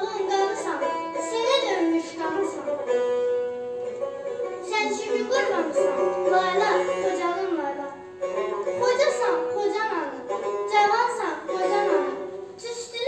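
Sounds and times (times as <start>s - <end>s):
bowed fiddle melody: 0.0s - 13.0s.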